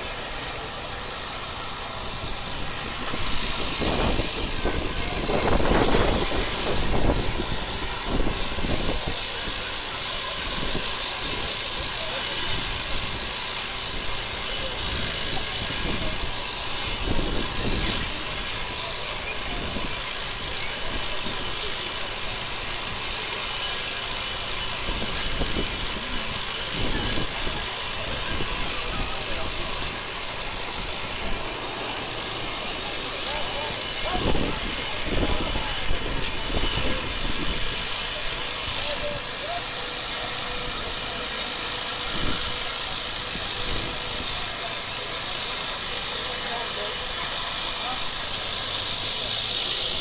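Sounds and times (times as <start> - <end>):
engine idling: 0.0 - 50.0
even hiss: 0.0 - 50.0.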